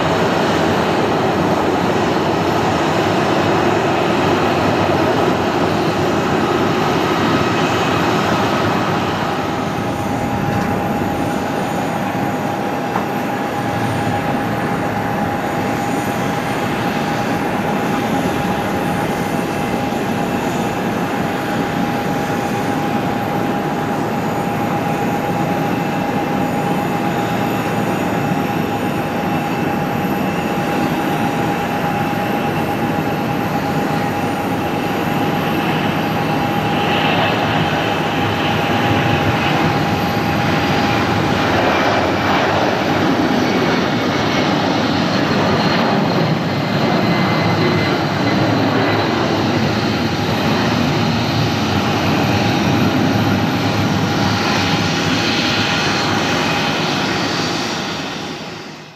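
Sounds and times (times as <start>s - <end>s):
jet engines roaring on takeoff: 0.0s - 58.9s.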